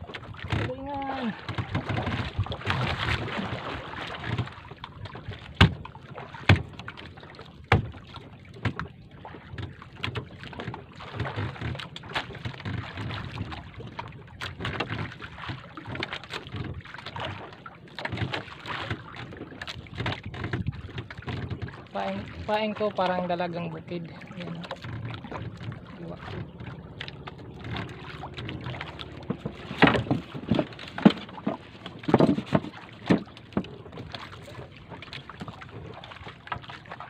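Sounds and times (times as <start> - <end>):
sea noise: 0.0 - 37.0
sharp knocks in boat: 0.0 - 37.0
wind: 0.0 - 37.0.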